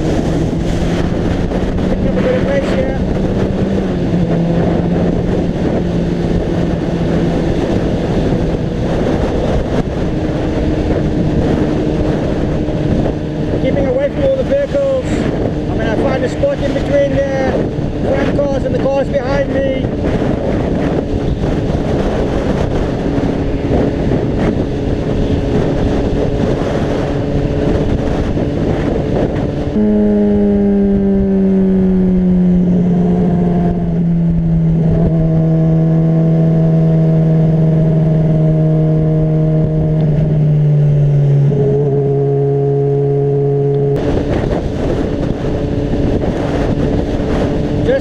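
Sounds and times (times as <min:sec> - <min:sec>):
motorcycle engine running: 0:00.0 - 0:48.0
wind buffeting microphone: 0:00.0 - 0:48.0.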